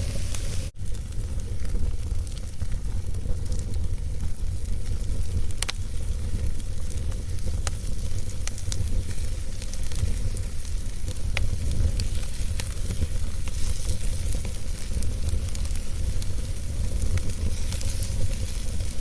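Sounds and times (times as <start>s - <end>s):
logs crackling and popping: 0.0s - 19.0s
low rumble of flames: 0.0s - 19.0s.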